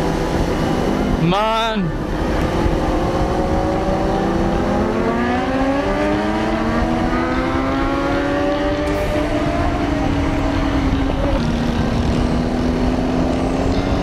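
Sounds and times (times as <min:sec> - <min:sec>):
wind rushing over microphone: 0:00.0 - 0:14.0
motorcycle engine accelerating: 0:01.9 - 0:14.0.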